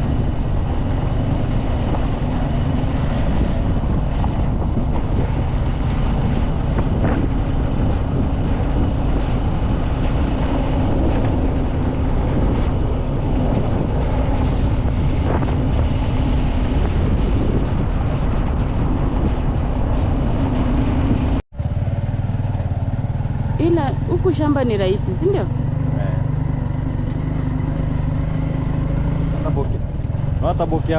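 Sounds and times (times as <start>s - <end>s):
vehicle engine and road noise: 0.0s - 30.9s
wind buffeting microphone: 0.0s - 30.9s.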